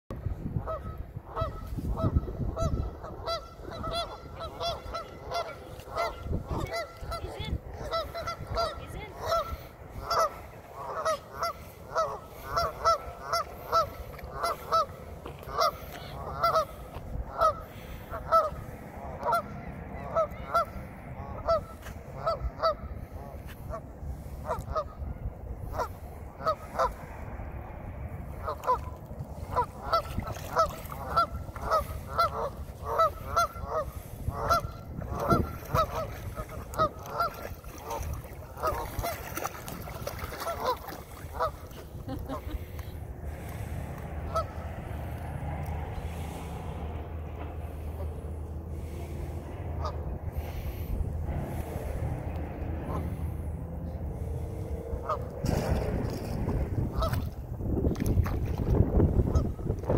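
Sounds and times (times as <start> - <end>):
geese honking: 0.6 - 27.0, 28.3 - 55.4, 56.8 - 57.4.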